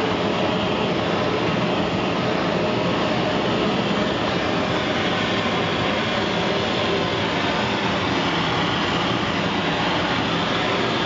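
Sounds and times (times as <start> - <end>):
propane torch roaring hiss: 0.0 - 11.0.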